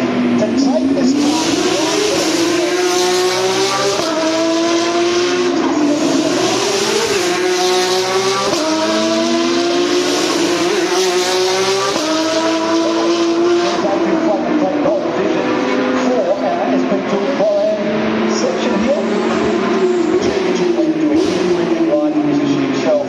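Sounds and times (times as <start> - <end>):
race car engine at full throttle: 0.0 - 23.0.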